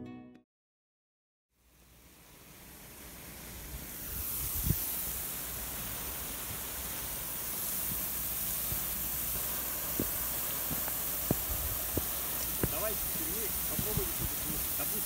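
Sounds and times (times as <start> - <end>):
hose water jet spraying: 1.8 - 15.0.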